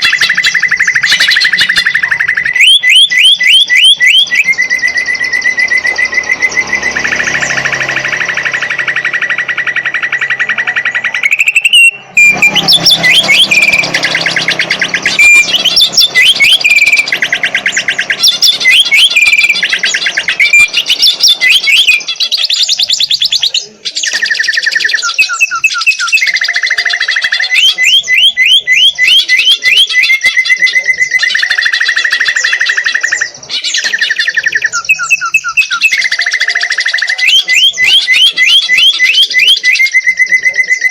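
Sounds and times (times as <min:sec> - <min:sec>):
bird singing trills and whistles: 0:00.0 - 0:40.9.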